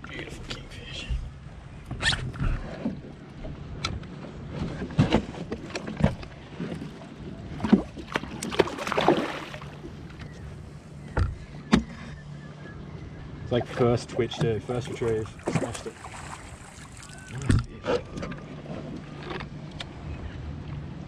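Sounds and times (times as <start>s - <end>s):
wind and water rumble: 0.0s - 21.0s.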